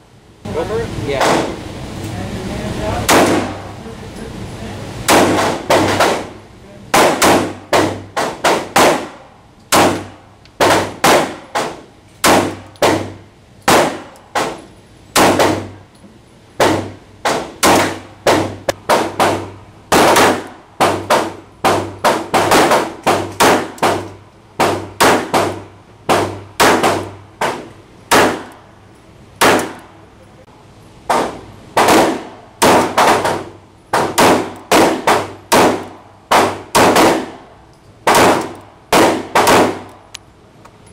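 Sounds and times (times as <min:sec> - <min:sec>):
pistol gunshots indoors: 0:03.0 - 0:03.6, 0:05.1 - 0:15.8, 0:16.6 - 0:28.7, 0:29.4 - 0:30.0, 0:31.1 - 0:40.1.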